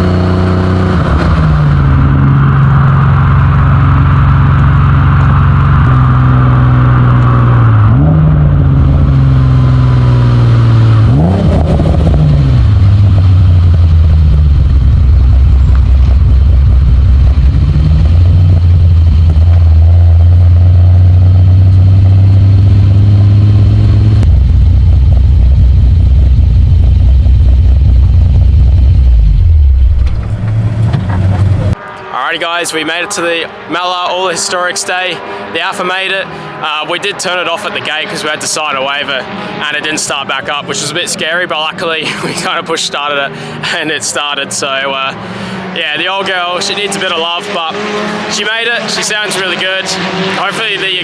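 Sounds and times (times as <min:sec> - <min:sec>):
car exhaust revving: 0:00.0 - 0:51.0.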